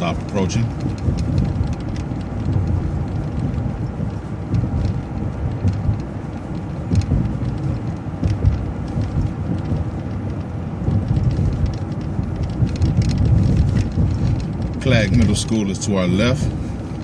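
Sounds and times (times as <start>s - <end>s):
bus engine and road rumble: 0.0s - 17.0s
light clicks and rattles: 0.0s - 17.0s.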